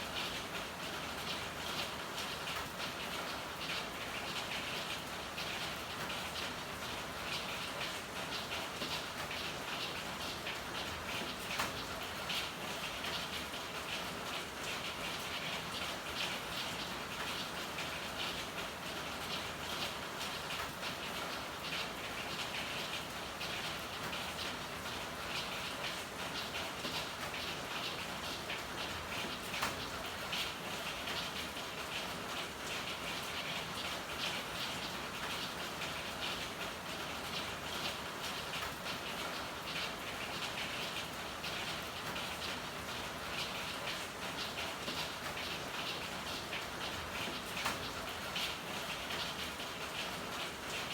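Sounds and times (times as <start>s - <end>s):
rain on hard surfaces: 0.0s - 50.9s.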